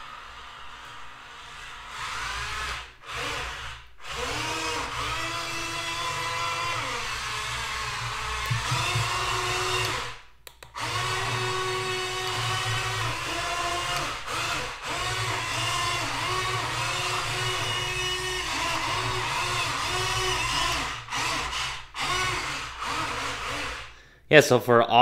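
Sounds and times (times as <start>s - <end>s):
electric motor whining: 0.0s - 10.2s, 10.8s - 24.0s.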